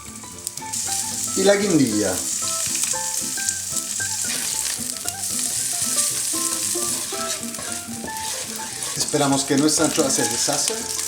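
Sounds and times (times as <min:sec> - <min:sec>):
background music: 0:00.0 - 0:11.0
food sizzling in oil: 0:00.0 - 0:11.0
stirring clicks: 0:00.3 - 0:11.0.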